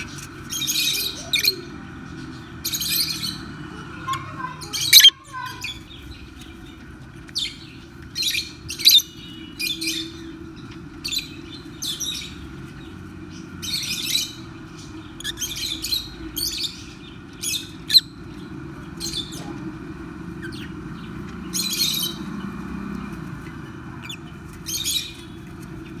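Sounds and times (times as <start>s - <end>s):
birds shrill chirps: 0.0s - 26.0s
low background hum: 0.0s - 26.0s.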